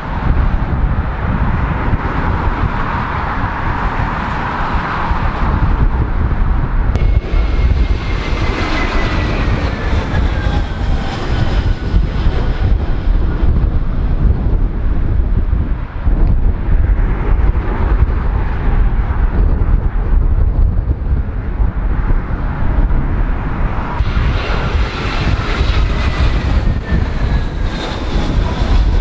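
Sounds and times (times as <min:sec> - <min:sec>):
jet engine whine: 0:00.0 - 0:29.0
jet engines rumbling: 0:00.0 - 0:29.0
wind buffeting microphone: 0:00.0 - 0:29.0.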